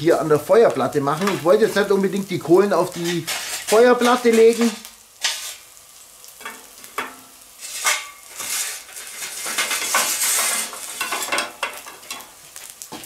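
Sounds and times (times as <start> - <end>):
bacon sizzling: 0.0 - 13.0
coals pouring with hiss and rattle: 0.0 - 13.0
charcoal clattering on metal: 0.6 - 2.0, 2.8 - 5.6, 6.4 - 13.0.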